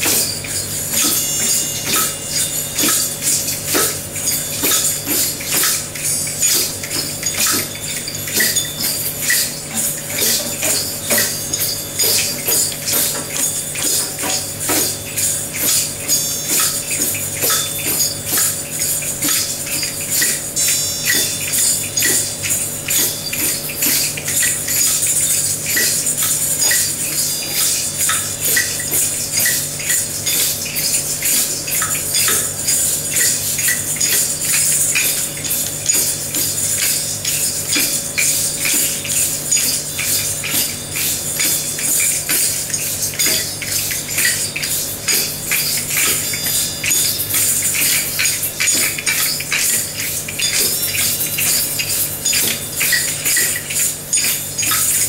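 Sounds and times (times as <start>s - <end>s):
hand percussion group playing: 0.0s - 55.0s.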